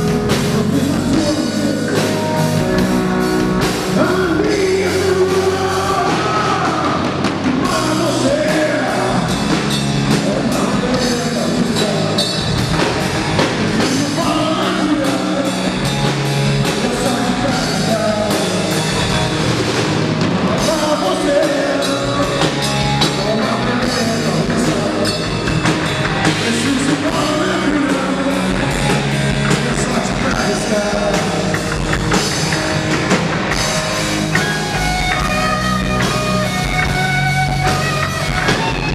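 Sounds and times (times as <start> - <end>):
bass guitar: 0.0 - 38.9
distorted electric guitar: 0.0 - 38.9
drum kit: 0.0 - 38.9.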